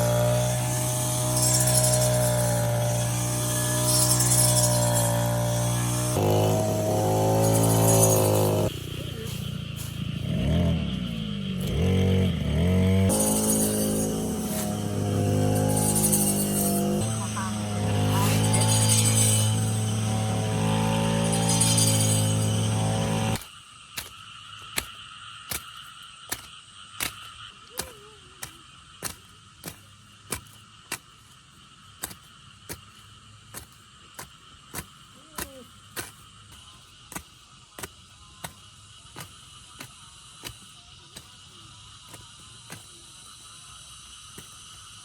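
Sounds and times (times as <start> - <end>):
insects droning: 0.0 - 45.0
sickle cutting rice stalks: 0.0 - 45.0.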